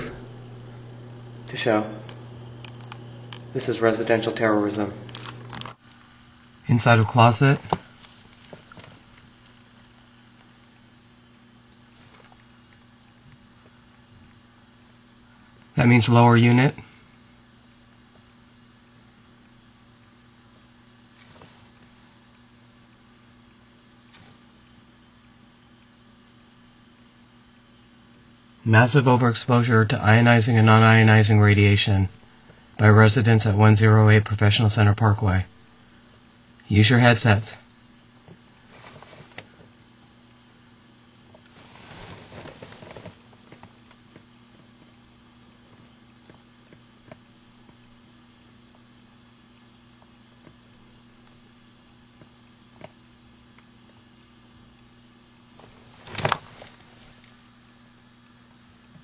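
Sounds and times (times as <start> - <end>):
low electrical buzzing hum: 0.0 - 59.0.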